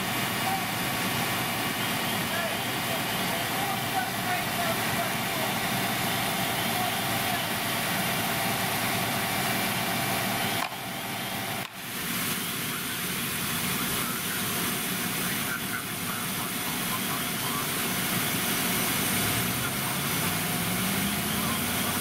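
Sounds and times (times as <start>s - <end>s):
fire engine motor running: 0.0s - 22.0s.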